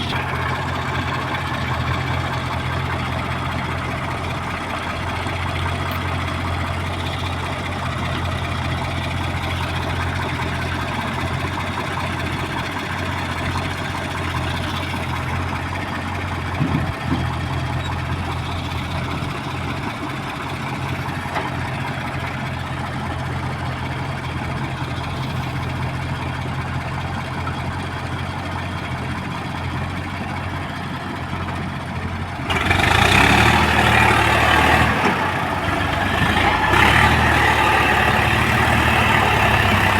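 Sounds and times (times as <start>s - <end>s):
diesel engine running: 0.0s - 39.9s
harsh loud engine: 0.0s - 39.9s.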